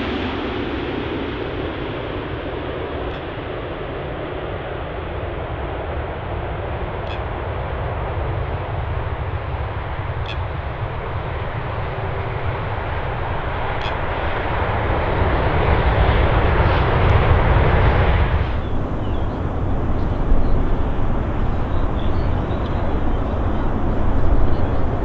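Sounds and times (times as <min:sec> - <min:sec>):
jet plane landing: 0:00.0 - 0:25.0.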